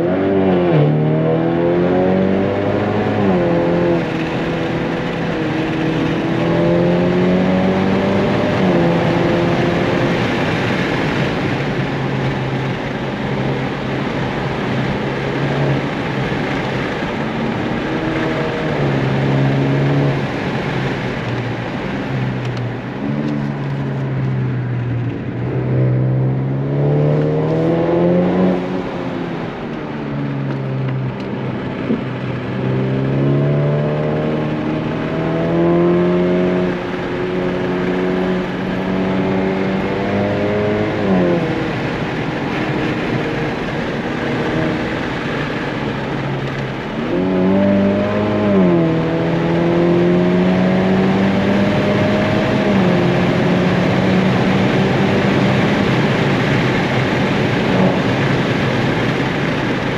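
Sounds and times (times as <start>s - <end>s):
car engine revving: 0.0s - 59.9s
road and tyre noise: 0.0s - 59.9s.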